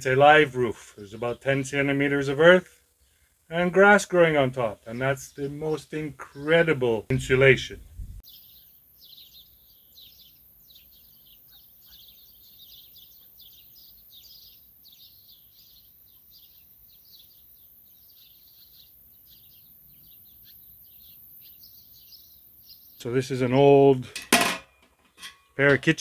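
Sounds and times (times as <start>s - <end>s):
small birds chirping: 0.0s - 24.2s.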